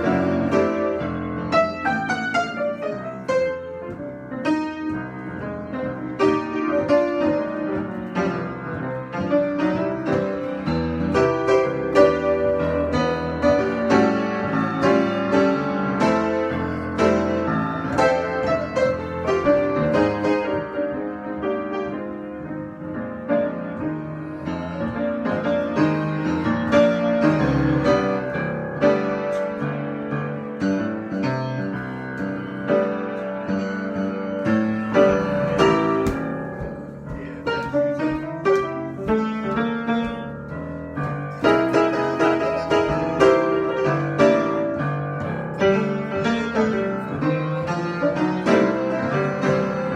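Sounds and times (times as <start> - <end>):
solo piano improvisation: 0.0 - 49.9.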